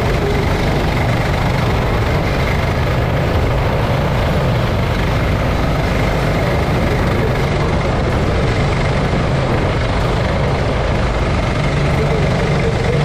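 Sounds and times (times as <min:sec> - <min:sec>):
go-kart engine at speed: 0:00.0 - 0:13.0.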